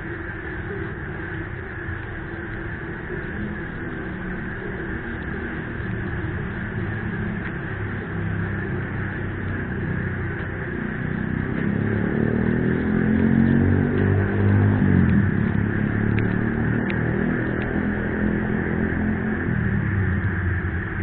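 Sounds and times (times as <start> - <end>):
frogs calling: 0.0 - 21.0
rain: 0.0 - 21.0
motor vehicle passing: 3.1 - 21.0.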